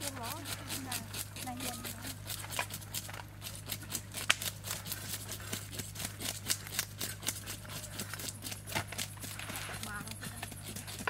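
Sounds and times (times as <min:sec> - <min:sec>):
knives scraping fish scales: 0:00.0 - 0:11.0.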